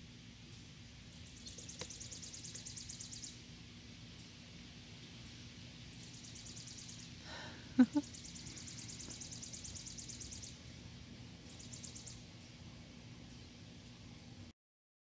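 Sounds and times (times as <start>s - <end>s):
faint low hum: 0.0s - 14.5s.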